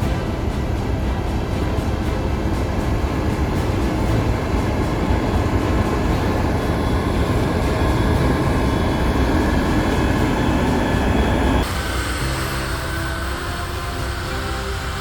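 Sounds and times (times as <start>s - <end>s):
continuous rushing noise: 0.0s - 15.0s
loud engine drone: 0.0s - 15.0s.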